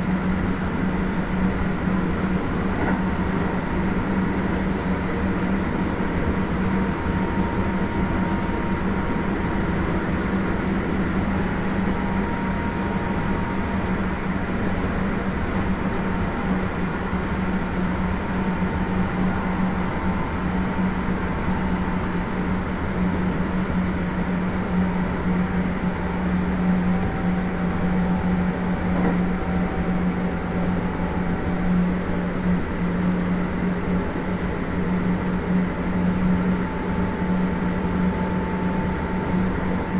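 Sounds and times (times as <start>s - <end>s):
steady low hum: 0.0s - 39.9s
train wheels rumbling on rail: 0.0s - 39.9s.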